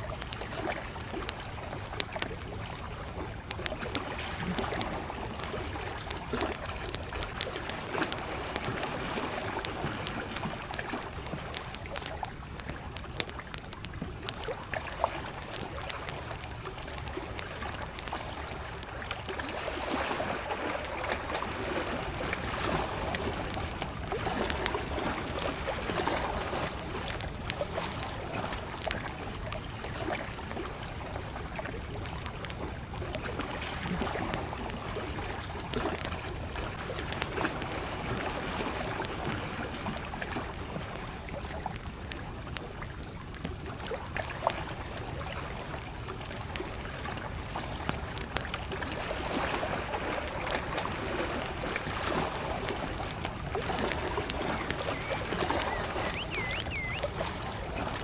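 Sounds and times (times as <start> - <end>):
campfire crackling and popping: 0.0 - 58.0
lake waves lapping: 0.1 - 42.8, 43.7 - 58.0.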